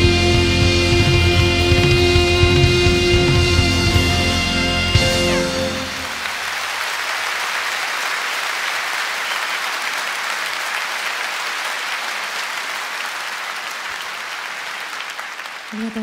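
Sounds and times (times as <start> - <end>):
audience applause: 0.0 - 16.0.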